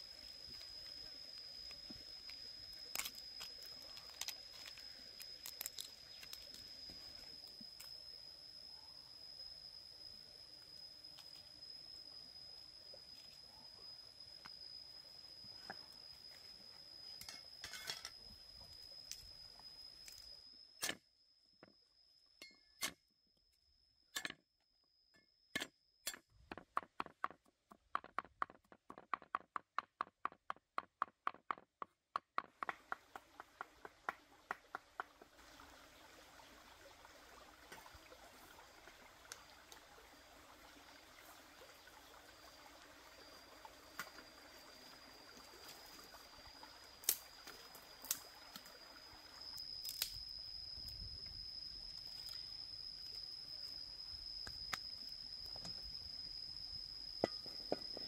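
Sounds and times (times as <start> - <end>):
faint high-pitched whine: 0.0 - 26.5, 32.6 - 58.0.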